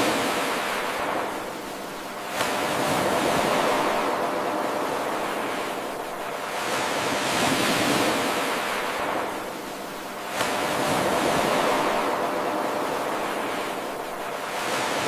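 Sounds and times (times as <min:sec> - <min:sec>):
ocean surf washing in: 0:00.0 - 0:15.0.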